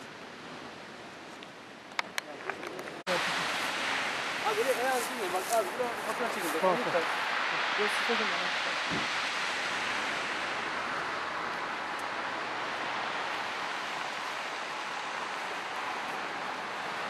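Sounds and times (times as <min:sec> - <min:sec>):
wind: 0:00.0 - 0:17.0
sea surf: 0:03.0 - 0:17.0.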